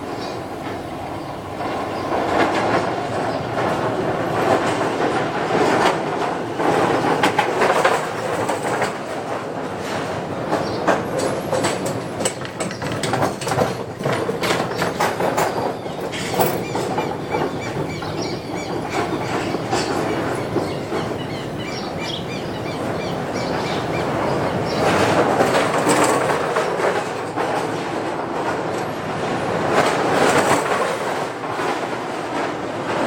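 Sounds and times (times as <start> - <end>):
wooden bridge planks clattering: 1.6 - 33.0.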